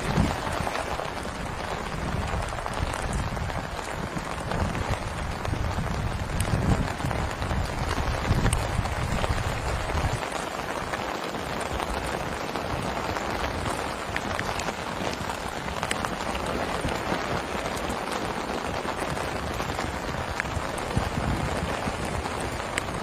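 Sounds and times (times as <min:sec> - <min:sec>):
heavy rain falling: 0:00.0 - 0:23.0
raindrops ticking close by: 0:00.0 - 0:23.0.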